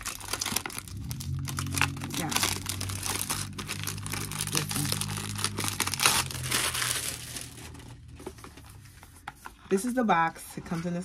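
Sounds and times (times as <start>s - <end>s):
plastic wrap crinkling and tearing: 0.0s - 9.0s.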